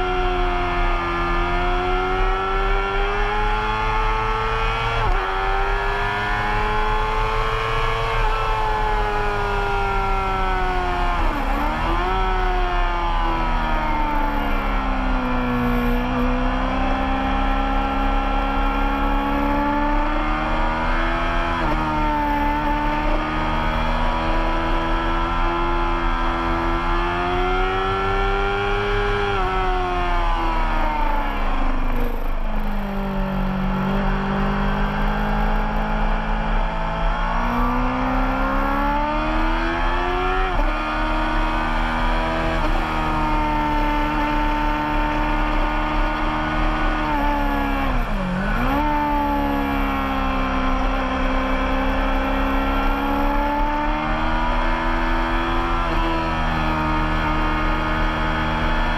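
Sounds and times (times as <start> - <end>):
racing motorcycle engine: 0.0 - 58.9.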